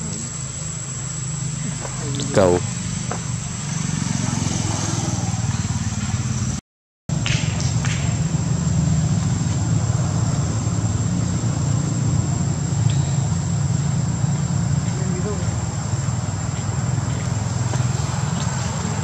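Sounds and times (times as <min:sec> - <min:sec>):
high steady whine: 0:00.0 - 0:04.5, 0:05.3 - 0:19.0
low engine hum: 0:00.0 - 0:19.0.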